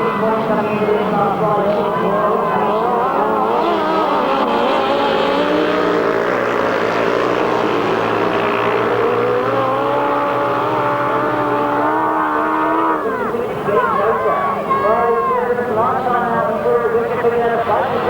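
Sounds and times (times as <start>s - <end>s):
sidecar engines racing at full throttle: 0.0s - 18.0s.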